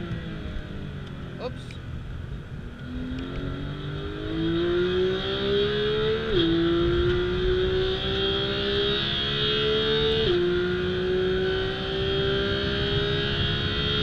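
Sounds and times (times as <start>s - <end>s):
car engine accelerating: 2.8s - 14.0s.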